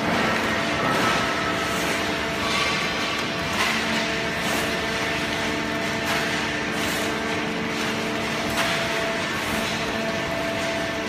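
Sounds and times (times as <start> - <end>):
baler machine hum: 0.0 - 11.0.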